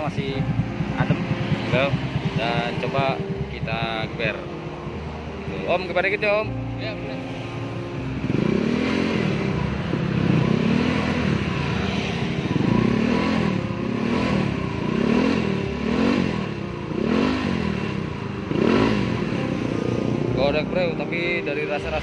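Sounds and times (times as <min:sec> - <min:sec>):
scooter engine revving: 0:00.0 - 0:06.6, 0:07.2 - 0:22.0.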